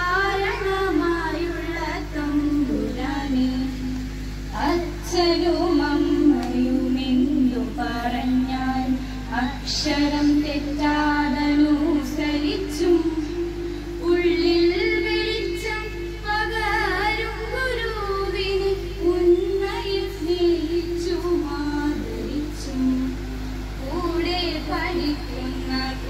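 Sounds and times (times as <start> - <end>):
young woman singing: 0.0 - 26.0.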